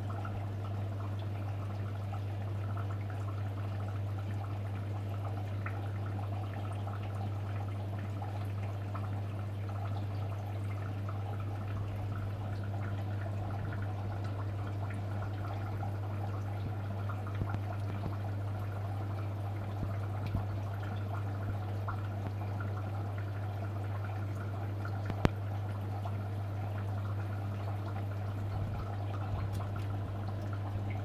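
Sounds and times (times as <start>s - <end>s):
aquarium water trickling and bubbling: 0.0s - 31.0s
constant low hum: 0.0s - 31.0s.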